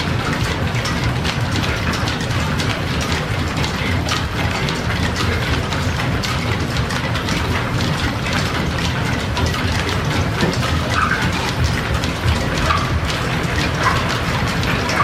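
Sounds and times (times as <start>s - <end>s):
belt-driven machinery running: 0.0s - 15.0s.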